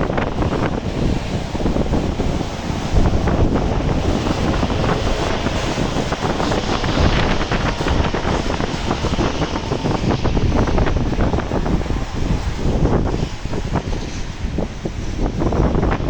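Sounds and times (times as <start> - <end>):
rain falling: 0.0 - 14.0
wind buffeting microphone: 0.0 - 16.0.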